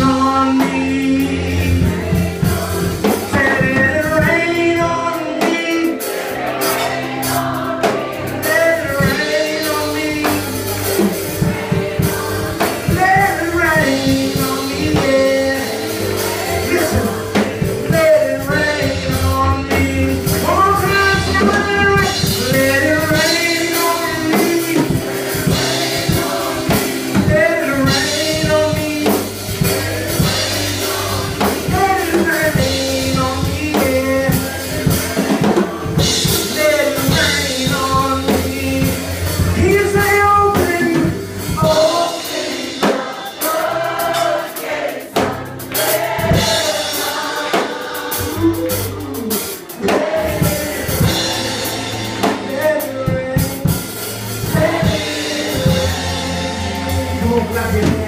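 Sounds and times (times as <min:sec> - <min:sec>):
bass line: 0:00.0 - 0:06.6, 0:07.3 - 0:42.4, 0:48.1 - 0:58.0
drum kit: 0:00.0 - 0:58.0
group singing gospel: 0:00.0 - 0:58.0.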